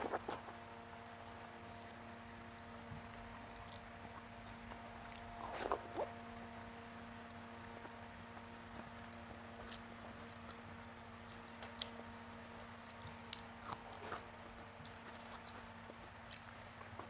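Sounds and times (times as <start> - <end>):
person chewing: 0.0 - 0.6, 1.8 - 6.2, 7.3 - 17.0
faint steady hum: 0.0 - 17.0.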